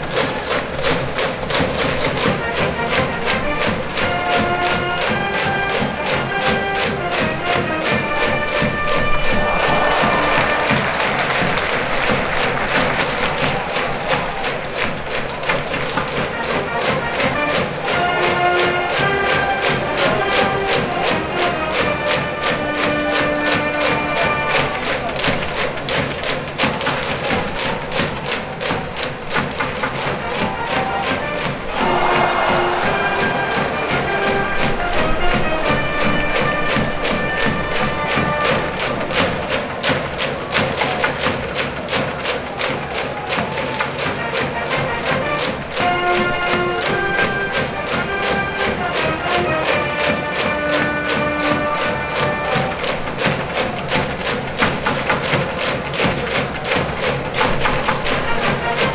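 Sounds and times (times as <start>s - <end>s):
brass band cheering music: 0.0s - 58.9s
fast steady drumbeat: 0.0s - 58.9s.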